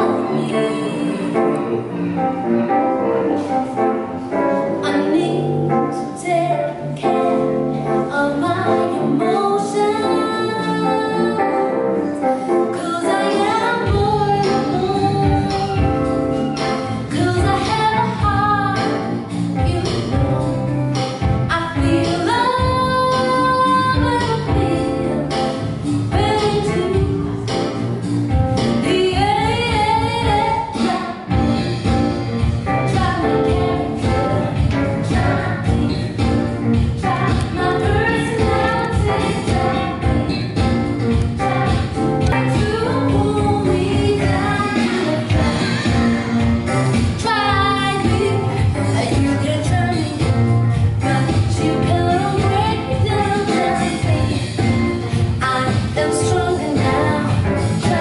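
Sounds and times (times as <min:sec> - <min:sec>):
woman singing: 0:00.0 - 0:02.2, 0:04.6 - 0:27.8, 0:28.6 - 0:31.5, 0:32.4 - 0:46.0, 0:47.1 - 0:58.0
electronic backing track: 0:00.0 - 0:58.0.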